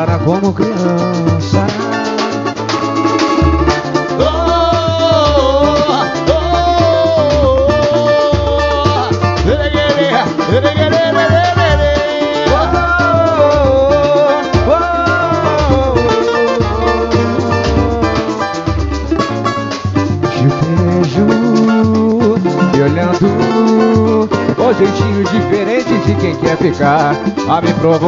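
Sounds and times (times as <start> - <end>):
deep drum beats: 0.0 - 28.0
plucked strings: 0.0 - 28.0
quick percussion: 0.0 - 28.0
sliding melodic line: 0.0 - 28.0.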